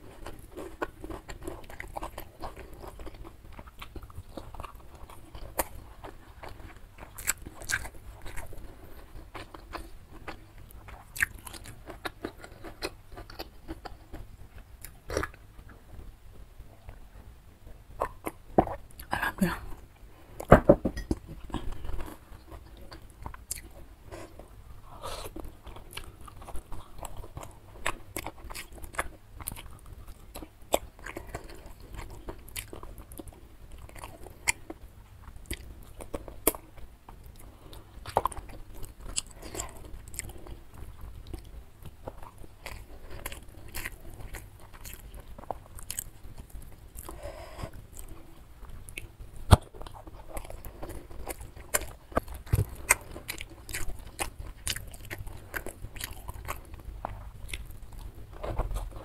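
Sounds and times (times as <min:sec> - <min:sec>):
chewing with crunches: 0:00.0 - 0:59.0.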